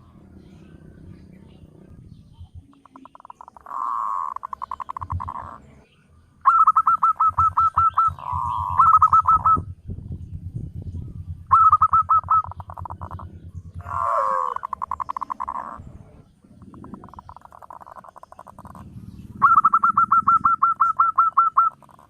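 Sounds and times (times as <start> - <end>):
doves cooing: 0.0 - 9.8, 11.0 - 22.0
low rapid pulsing: 0.0 - 22.0.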